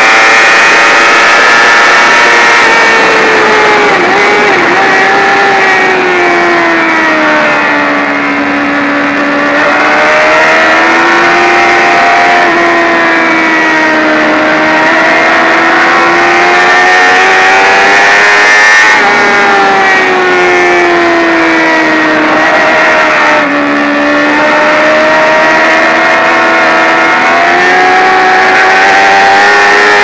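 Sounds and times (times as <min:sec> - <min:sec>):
wind rush: 0:00.0 - 0:28.8
motorcycle engine revving: 0:00.0 - 0:30.0.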